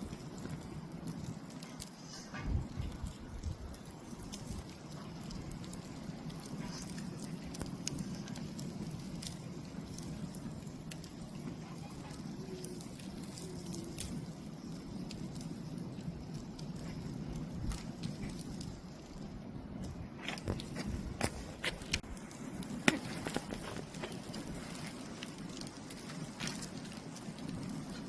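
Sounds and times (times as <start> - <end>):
campfire rushing: 0.0 - 28.0
wood crackling and popping: 0.0 - 28.0.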